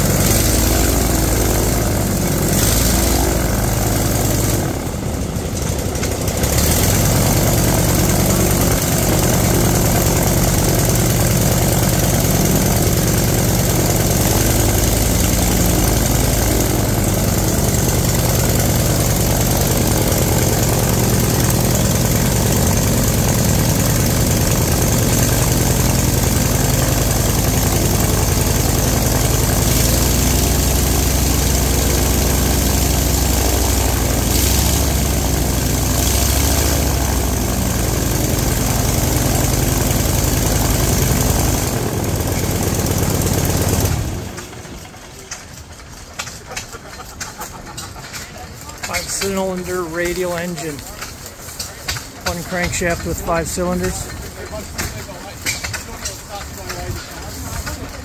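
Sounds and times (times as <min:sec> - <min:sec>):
small radial engine running: 0:00.0 - 0:58.0.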